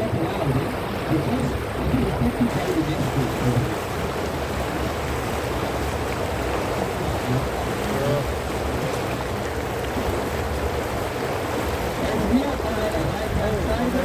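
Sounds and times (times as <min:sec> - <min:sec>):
boat motor running: 0:00.0 - 0:14.0
water rushing along hull: 0:00.0 - 0:14.0.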